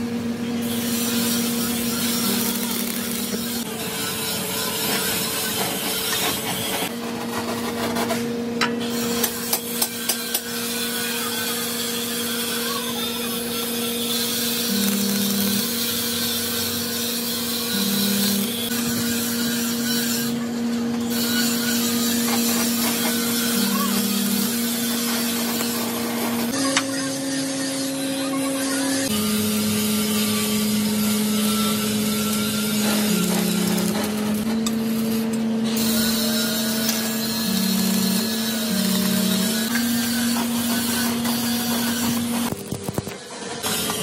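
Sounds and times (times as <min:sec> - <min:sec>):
angle grinder grinding steel: 0:00.6 - 0:07.8, 0:08.8 - 0:44.0.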